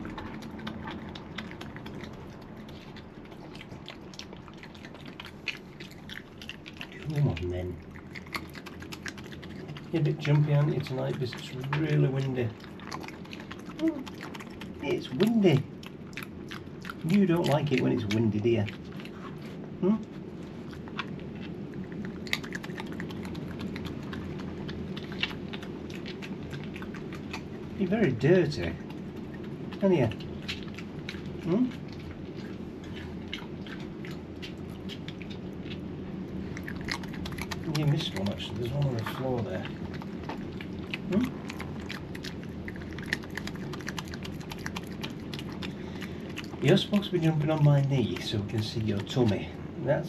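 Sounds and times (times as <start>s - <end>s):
badger crunching and chewing food: 0.0s - 50.0s.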